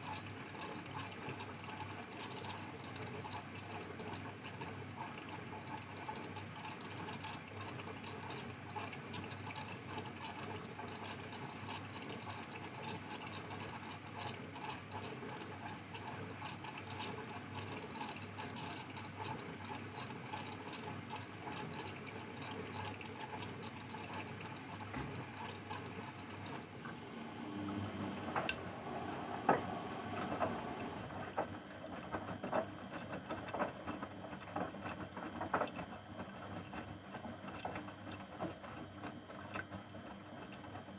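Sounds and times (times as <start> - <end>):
water rushing into washing machine: 0.0 - 40.9.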